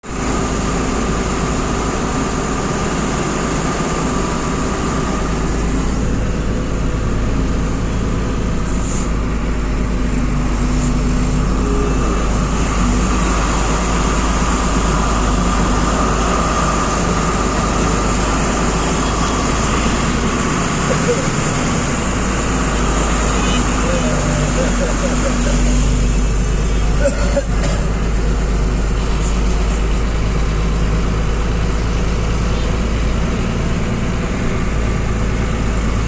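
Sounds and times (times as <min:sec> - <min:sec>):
road and traffic noise: 0:00.0 - 0:36.0
truck engine running: 0:00.0 - 0:36.0.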